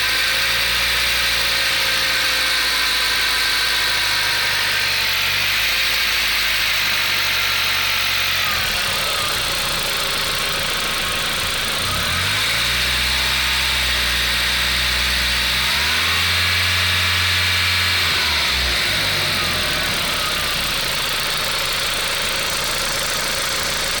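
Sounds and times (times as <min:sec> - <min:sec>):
car engine revving: 0:01.4 - 0:24.0.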